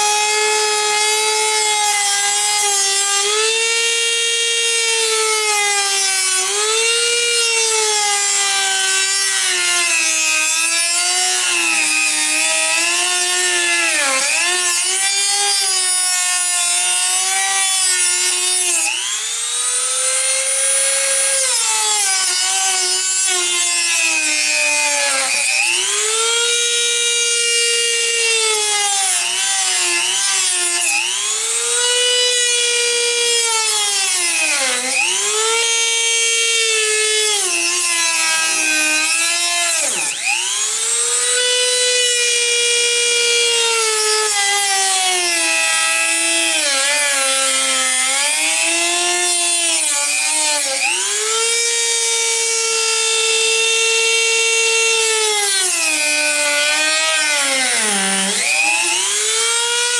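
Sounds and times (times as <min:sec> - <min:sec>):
rotary tool cutting plastic: 0:00.0 - 0:59.9.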